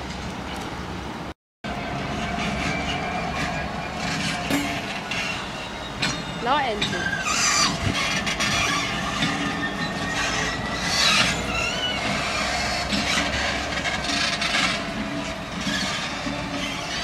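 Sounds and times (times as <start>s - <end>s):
diesel locomotive engine running: 0.0s - 17.0s
wheels scraping on rails: 0.0s - 17.0s
wheel squeal: 1.7s - 17.0s.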